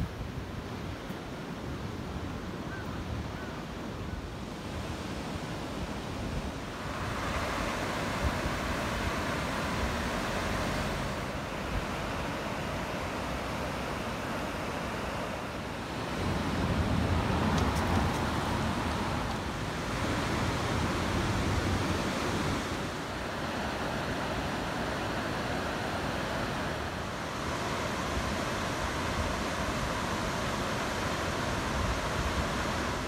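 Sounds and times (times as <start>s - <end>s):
rushing river water: 0.0s - 33.0s
wind buffeting microphone: 4.6s - 33.0s.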